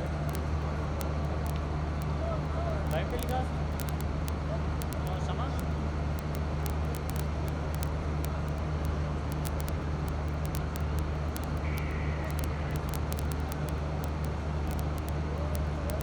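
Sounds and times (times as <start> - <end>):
distant fireworks crackling: 0.0 - 16.0
low outdoor rumble: 0.0 - 16.0.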